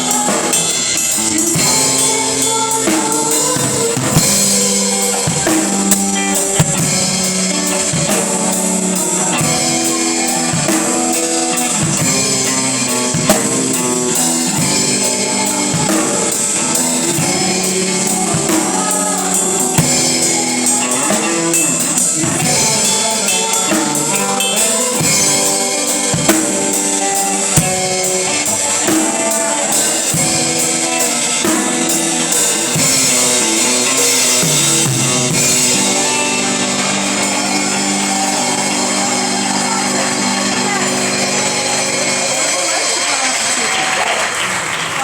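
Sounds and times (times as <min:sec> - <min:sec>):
keyboard notes: 0:00.0 - 0:44.3
drum kit steady beat: 0:00.0 - 0:45.0
sustained guitar: 0:00.0 - 0:45.0.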